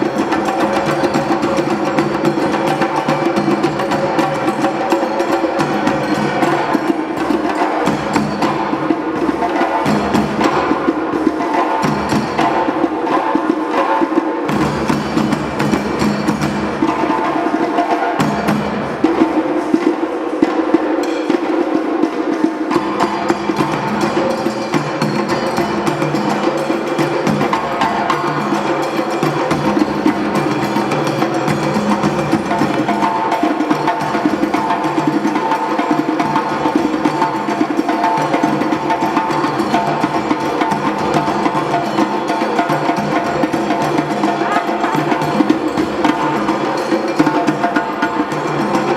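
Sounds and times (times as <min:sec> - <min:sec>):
drum ensemble playing: 0:00.0 - 0:48.9.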